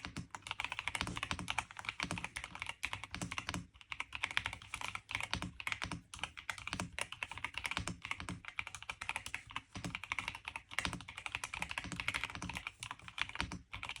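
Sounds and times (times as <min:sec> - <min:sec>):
fast keyboard typing: 0:00.0 - 0:14.0.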